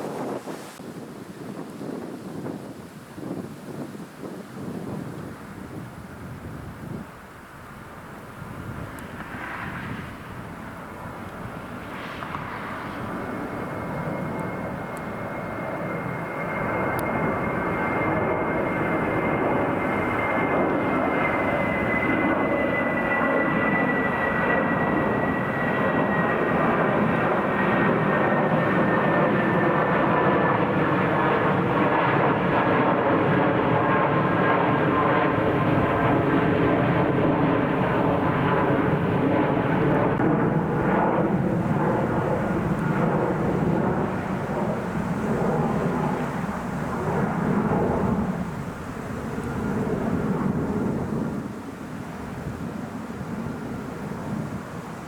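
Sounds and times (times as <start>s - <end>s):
airliner engines roaring: 0.0s - 55.0s.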